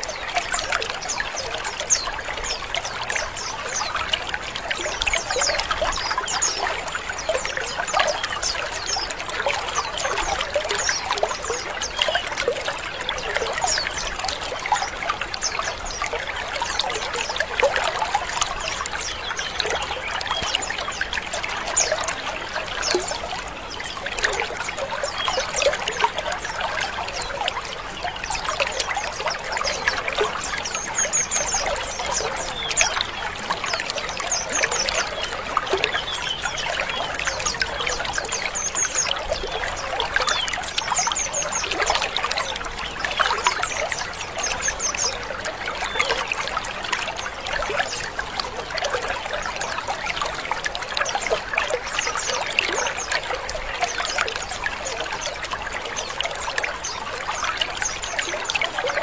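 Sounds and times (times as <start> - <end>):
birds twittering and chirping: 0.0 - 59.0.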